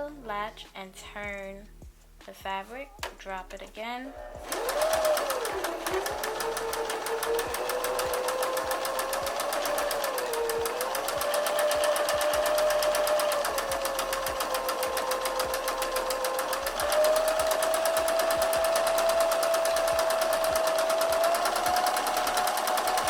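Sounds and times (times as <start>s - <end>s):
sewing machine motor whine: 4.1s - 23.0s
sewing machine needle clatter: 4.4s - 23.0s.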